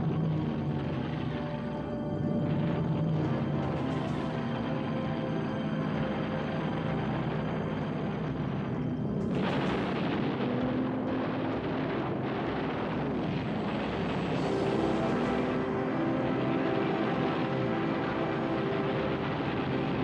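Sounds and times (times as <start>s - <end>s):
propeller aircraft engines droning: 0.0s - 20.0s.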